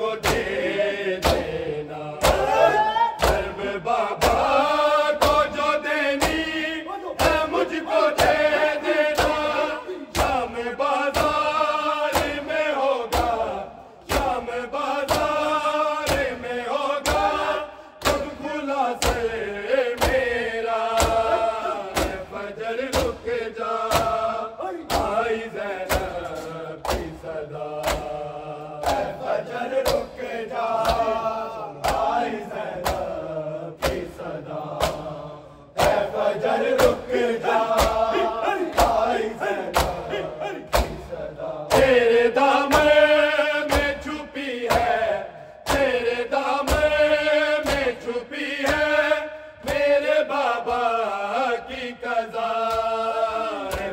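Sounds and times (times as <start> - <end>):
men chanting in unison: 0.0 - 53.9
hands slapping bare chests: 0.2 - 6.6, 7.2 - 48.0, 48.6 - 50.0, 52.6 - 53.9.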